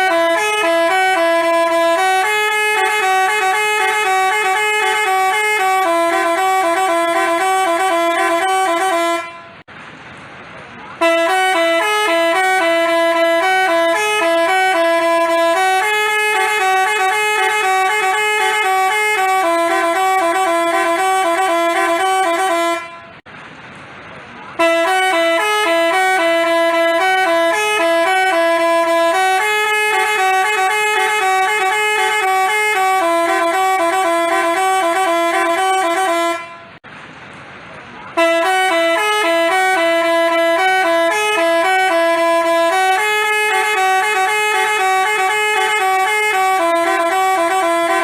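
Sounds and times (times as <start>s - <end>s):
musical bus horn tune: 0.0s - 9.7s, 11.0s - 23.3s, 24.5s - 36.8s, 38.1s - 48.0s.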